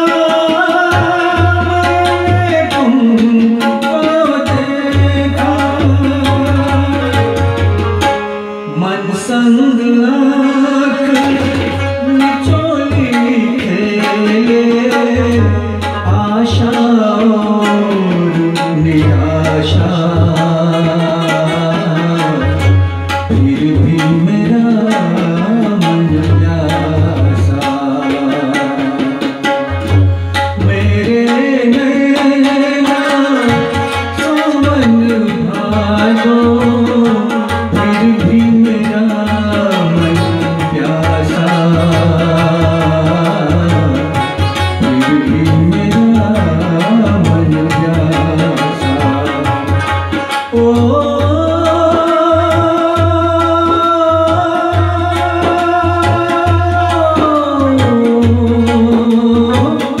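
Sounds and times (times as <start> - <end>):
harmonium and rubab melody: 0.0 - 60.0
tabla rhythm: 0.0 - 60.0.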